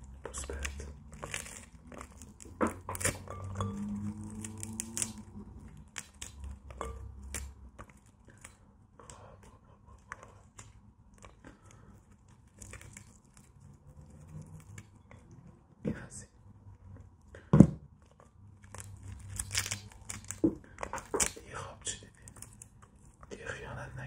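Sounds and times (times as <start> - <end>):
fingers breaking soft fruit: 0.0 - 15.6, 17.0 - 23.3.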